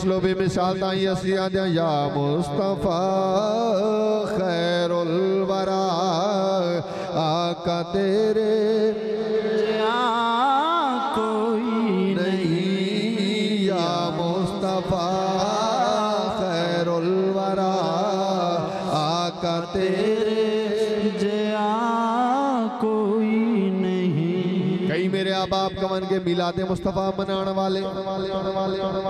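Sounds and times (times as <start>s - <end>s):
man chanting devotional recitation: 0.0s - 29.0s.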